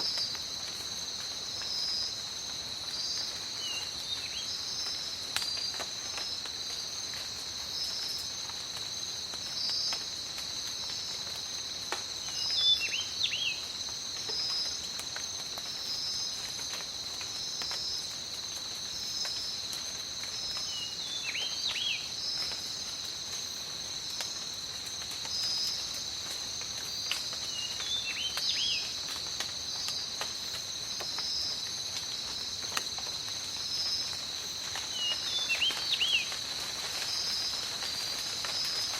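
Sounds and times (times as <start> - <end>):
insect chorus: 0.0 - 38.9
raindrops ticking and dripping: 0.0 - 38.9.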